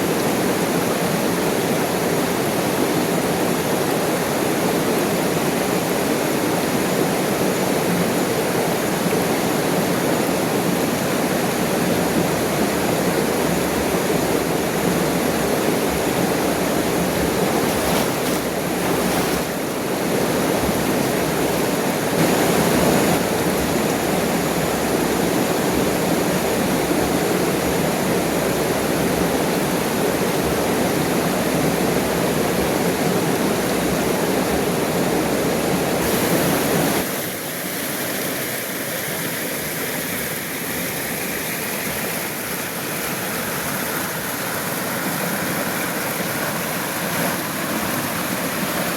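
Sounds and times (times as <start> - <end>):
waterfall crashing into pool: 7.6 - 28.8, 29.7 - 48.9.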